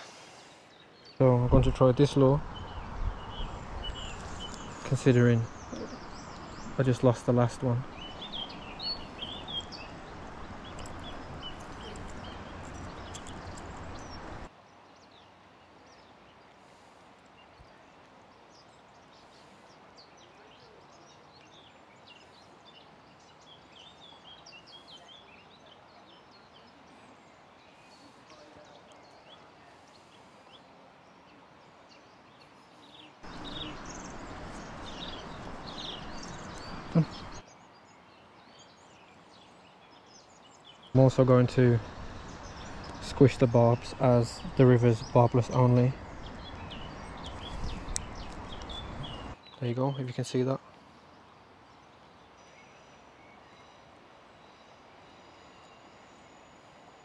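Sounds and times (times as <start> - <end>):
river water rushing: 0.0 - 32.2, 33.2 - 49.5
small birds chirping: 0.0 - 57.0.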